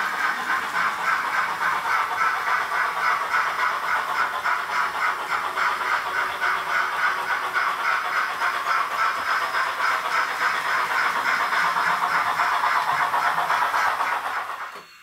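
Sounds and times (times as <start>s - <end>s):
model locomotive steam chuffs: 0.0s - 15.0s.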